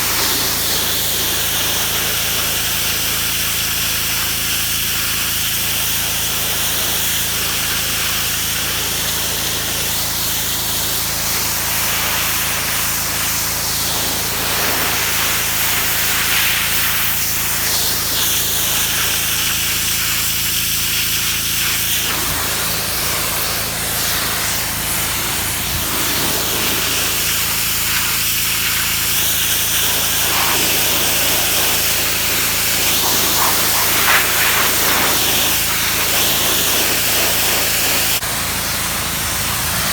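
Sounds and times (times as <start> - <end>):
pressure washer engine hum: 0.0 - 39.9
water spray hissing: 0.0 - 39.9.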